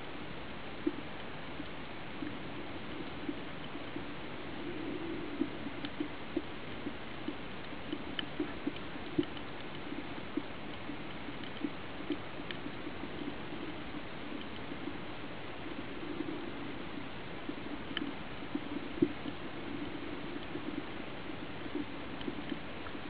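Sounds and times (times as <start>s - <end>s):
low underwater hiss: 0.0s - 23.0s.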